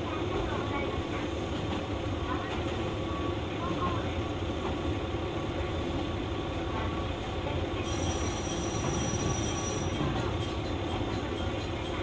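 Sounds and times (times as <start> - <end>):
railcar engine and wheels running: 0.0 - 12.0.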